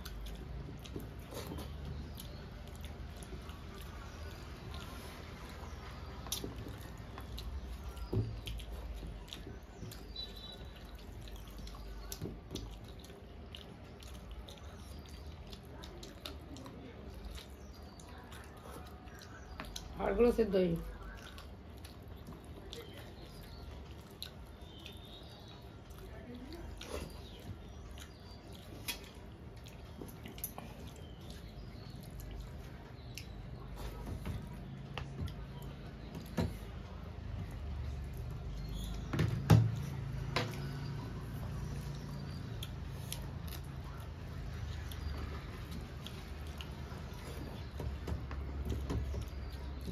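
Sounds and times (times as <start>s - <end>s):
fingers squishing rice and curry: 0.0s - 20.0s, 20.8s - 49.9s
wet chewing and lip smacks: 0.0s - 20.0s, 20.8s - 39.1s, 39.7s - 47.8s.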